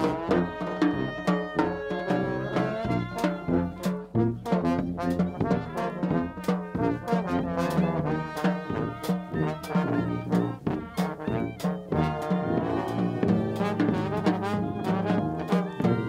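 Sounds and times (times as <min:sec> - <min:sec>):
brass band playing: 0:00.0 - 0:16.0
sousaphone bass notes: 0:00.0 - 0:16.0
steady drum beat: 0:00.0 - 0:16.0
trombones: 0:00.0 - 0:16.0.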